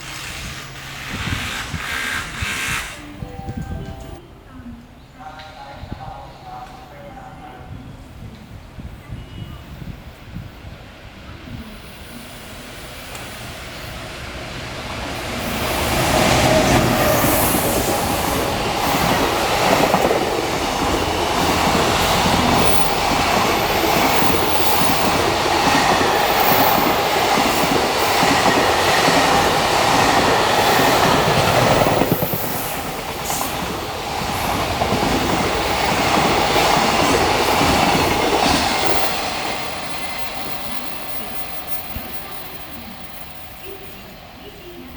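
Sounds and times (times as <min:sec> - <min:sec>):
freight train wheels on rails: 0:00.0 - 0:04.2, 0:05.4 - 0:44.9.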